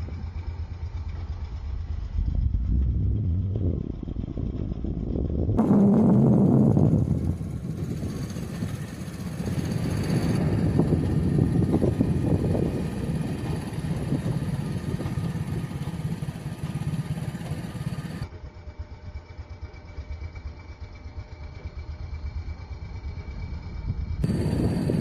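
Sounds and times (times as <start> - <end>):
road noise: 0.0 - 18.3, 22.6 - 25.0
vehicle engine low rumble: 0.0 - 25.0.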